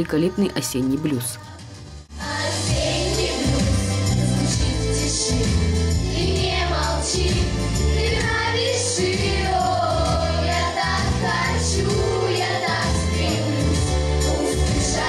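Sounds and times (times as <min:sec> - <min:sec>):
instrumental accompaniment with bass: 0:00.0 - 0:15.0
children's choir singing: 0:02.2 - 0:15.0.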